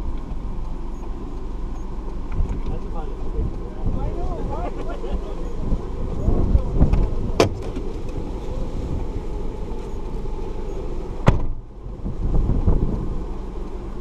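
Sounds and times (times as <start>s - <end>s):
car rumble: 0.0s - 14.0s.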